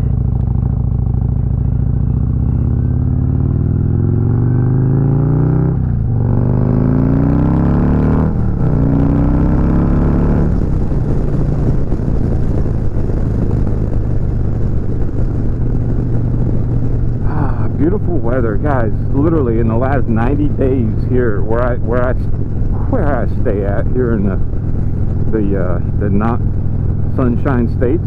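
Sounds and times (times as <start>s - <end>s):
motorcycle accelerating: 0.0s - 28.0s
wind noise: 3.0s - 28.0s.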